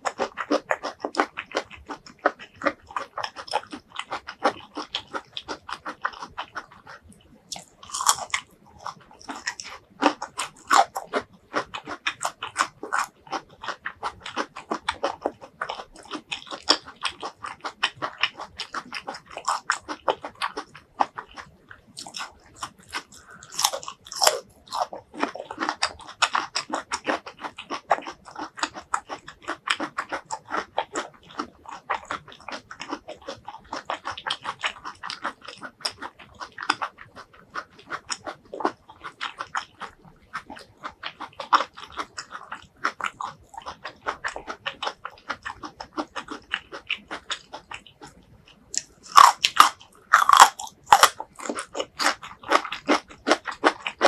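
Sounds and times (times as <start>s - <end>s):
crunchy vegetable chewing: 0.0s - 54.0s.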